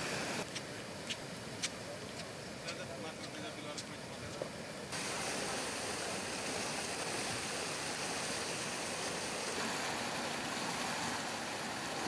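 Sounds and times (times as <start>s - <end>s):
floodwater rushing over bridge: 0.0s - 12.0s.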